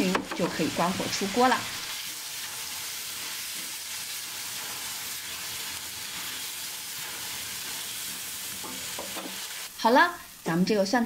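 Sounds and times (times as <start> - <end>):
spatula stirring: 0.0 - 9.7
food sizzling in a wok: 0.0 - 11.0.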